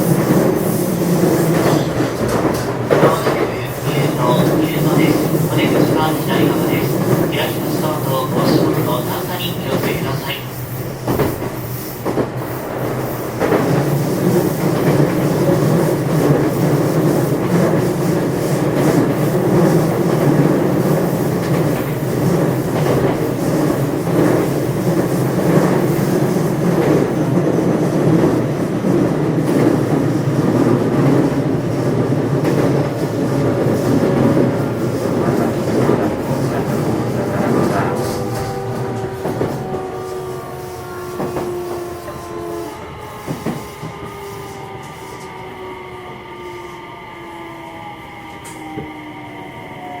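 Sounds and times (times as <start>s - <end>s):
train running gear rumble: 0.0s - 45.4s.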